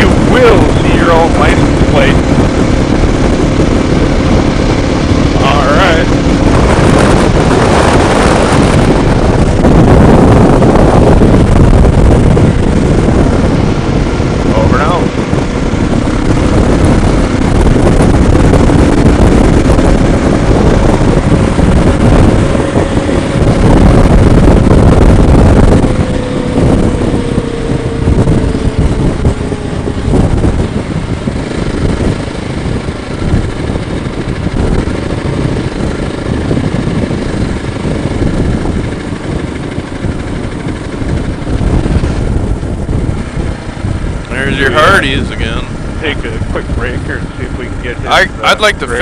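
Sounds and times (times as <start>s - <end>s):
motorcycle engine running: 0.0s - 49.0s
wind rushing past microphone: 0.0s - 49.0s.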